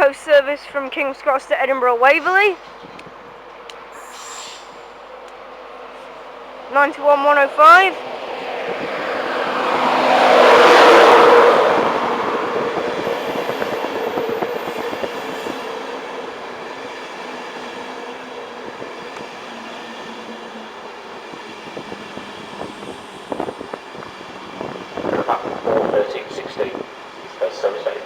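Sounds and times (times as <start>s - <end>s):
train rolling past on rails: 0.0s - 28.0s.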